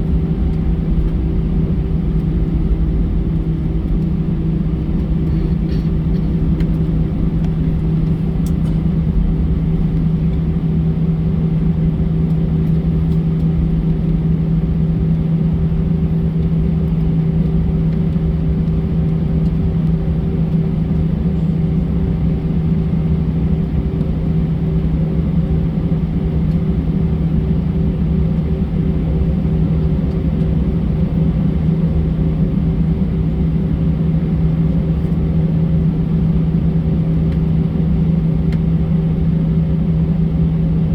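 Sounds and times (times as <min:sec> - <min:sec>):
jet cabin engine drone: 0:00.0 - 0:40.9.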